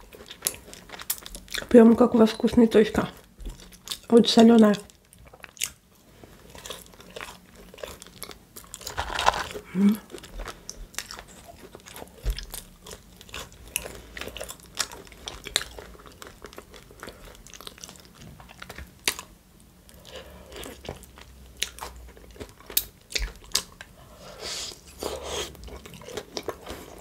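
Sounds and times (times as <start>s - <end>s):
close chewing with mouth clicks: 0.0s - 2.1s, 3.1s - 27.0s.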